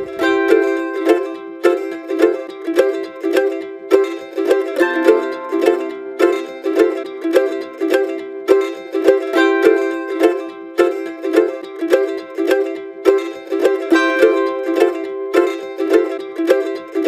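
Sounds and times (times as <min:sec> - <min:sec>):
plucked string instrumental music: 0:00.0 - 0:17.0.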